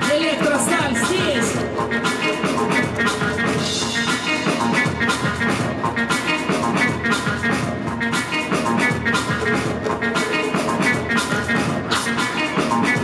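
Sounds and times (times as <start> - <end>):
guitar: 0.0 - 13.0
loud music: 0.0 - 13.0
steady drum beat: 0.0 - 13.0.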